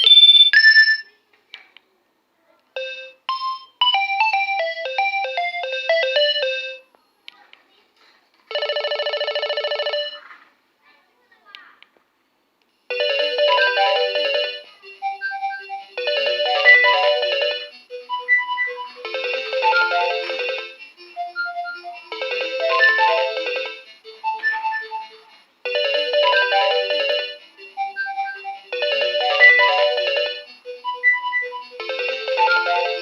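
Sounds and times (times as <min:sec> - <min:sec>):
phone ringtone synthesized tune: 0:00.0 - 0:01.1, 0:02.8 - 0:06.8, 0:08.5 - 0:10.2, 0:12.9 - 0:33.0.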